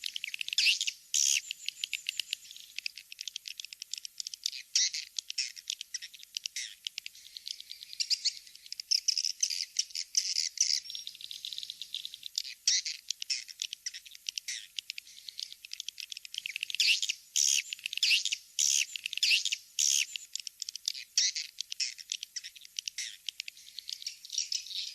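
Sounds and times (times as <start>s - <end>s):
swiftlet twittering calls: 0.0s - 24.9s.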